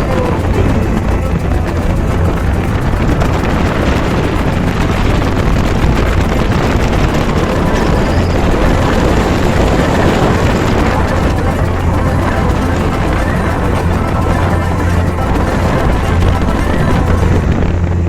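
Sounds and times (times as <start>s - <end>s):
motorboat engine running: 0.0s - 18.0s
water rushing against hull: 0.0s - 18.0s
wind: 0.0s - 18.0s.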